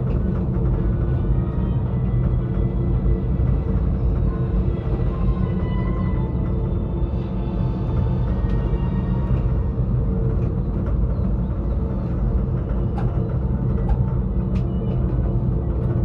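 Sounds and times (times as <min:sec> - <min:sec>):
gondola rumbling on cables: 0:00.0 - 0:16.0.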